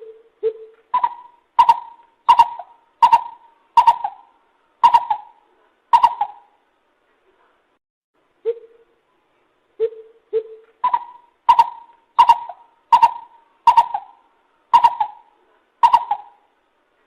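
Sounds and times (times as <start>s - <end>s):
coucal hooting: 0.0s - 6.6s, 8.4s - 9.0s, 9.8s - 16.6s.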